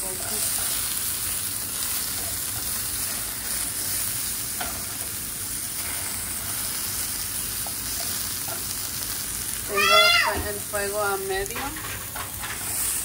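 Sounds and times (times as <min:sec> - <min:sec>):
vegetables sizzling in frying pan: 0:00.0 - 0:13.0.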